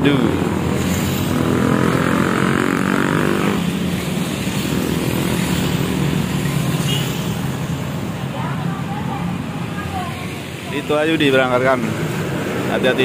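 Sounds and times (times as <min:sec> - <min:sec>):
motorbike passing: 0:00.0 - 0:13.0
road traffic: 0:00.0 - 0:13.0.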